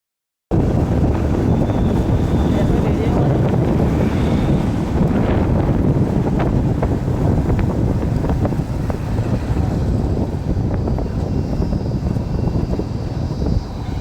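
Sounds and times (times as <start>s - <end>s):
vehicle engine rumble: 0.5s - 14.0s
wind buffeting microphone: 0.5s - 14.0s.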